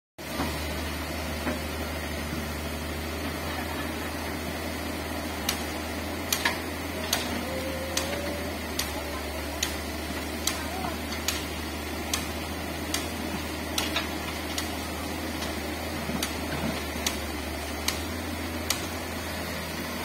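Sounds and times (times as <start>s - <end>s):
excavator diesel engine droning: 0.2s - 20.0s.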